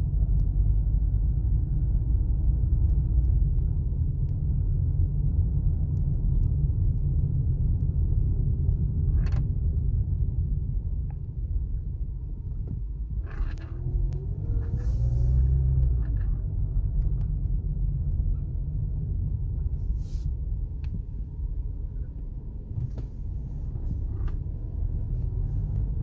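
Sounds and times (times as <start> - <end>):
car engine deep rumble: 0.0 - 26.0.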